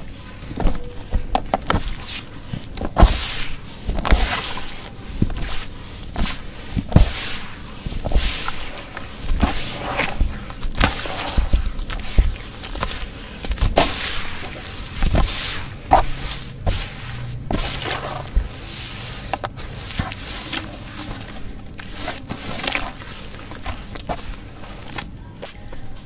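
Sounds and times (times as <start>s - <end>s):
hands swishing through muddy water: 0.0s - 25.7s
hands squelching wet sand: 0.0s - 26.0s.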